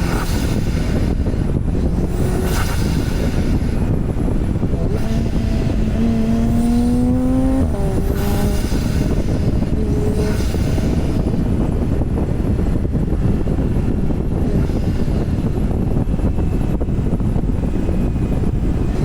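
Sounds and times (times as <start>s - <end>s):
car engine accelerating: 0.0s - 19.0s
low rumble of road noise: 0.0s - 19.0s.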